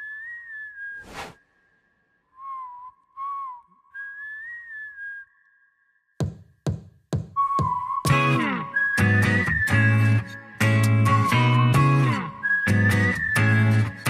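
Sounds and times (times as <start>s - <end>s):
whistled melody: 0.0s - 1.4s, 2.2s - 6.0s, 7.3s - 14.0s.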